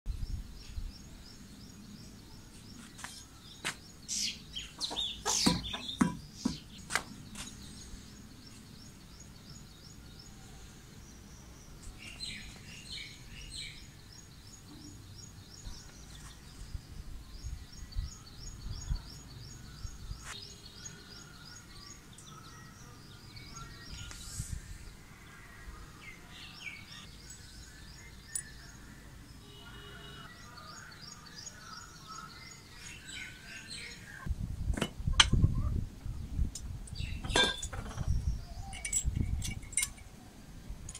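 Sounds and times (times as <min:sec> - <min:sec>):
birds chirping: 0:00.1 - 0:34.3, 0:35.2 - 0:40.9
outdoor background noise: 0:00.1 - 0:40.9.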